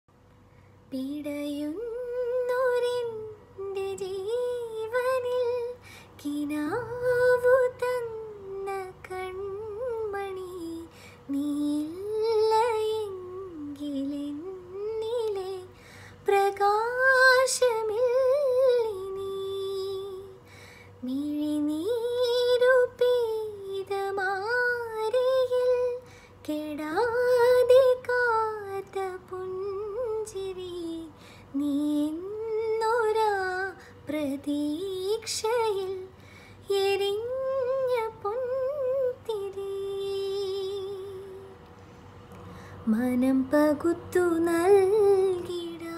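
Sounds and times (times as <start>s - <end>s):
woman singing: 0.9s - 20.4s, 21.0s - 41.6s, 42.8s - 45.9s.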